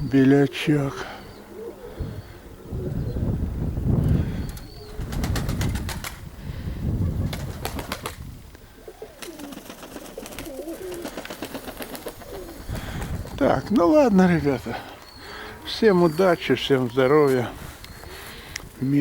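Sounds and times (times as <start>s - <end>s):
pigeons cooing: 0.0s - 3.5s, 4.1s - 5.9s, 8.6s - 19.0s.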